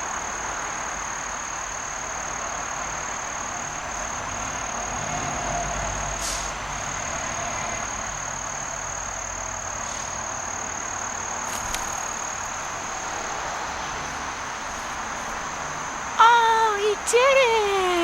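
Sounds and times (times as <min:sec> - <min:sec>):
crickets trilling: 0:00.0 - 0:18.0
outdoor background hiss: 0:00.0 - 0:18.0.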